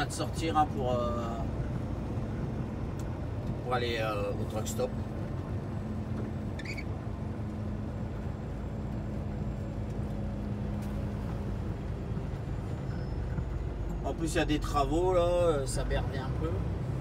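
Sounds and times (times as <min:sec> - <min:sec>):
road and tyre noise: 0:00.0 - 0:17.0
truck engine drone: 0:00.0 - 0:17.0.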